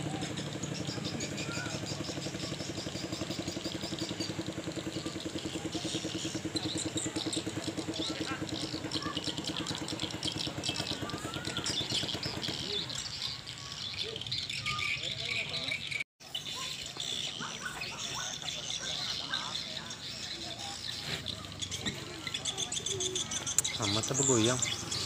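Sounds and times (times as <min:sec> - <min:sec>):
birds chirping: 0:00.0 - 0:25.0
boat engine running: 0:00.0 - 0:25.0.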